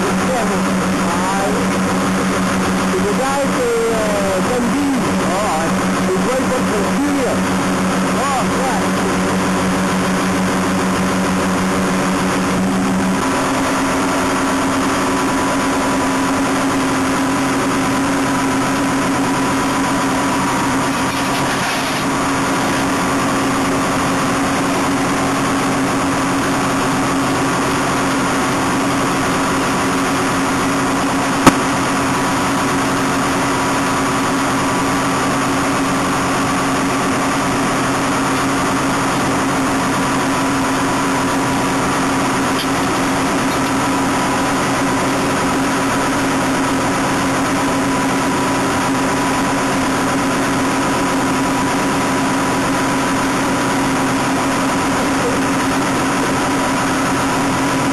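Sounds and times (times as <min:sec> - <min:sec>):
harvester machinery humming: 0:00.0 - 0:57.9.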